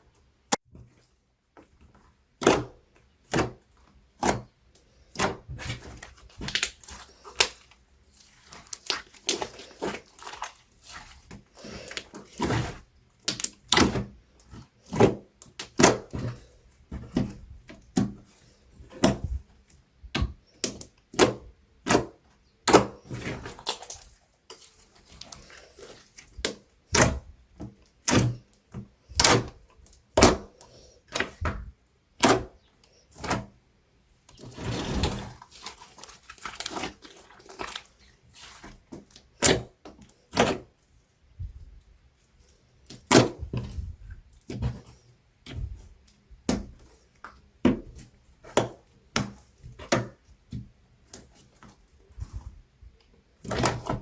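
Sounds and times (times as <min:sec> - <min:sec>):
slime squishing: 0:02.4 - 0:19.6, 0:20.2 - 0:33.5, 0:34.3 - 0:40.8, 0:42.4 - 0:54.0.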